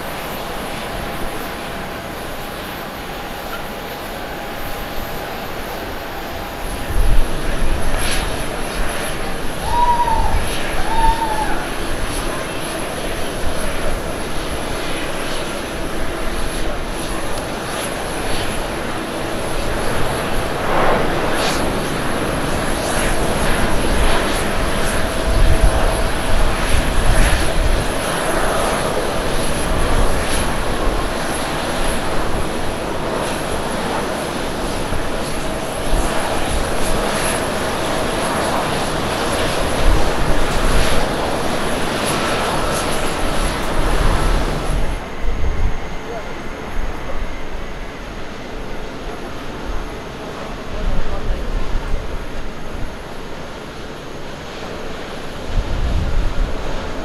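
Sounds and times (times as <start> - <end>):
jet engine roar: 0.0 - 57.0.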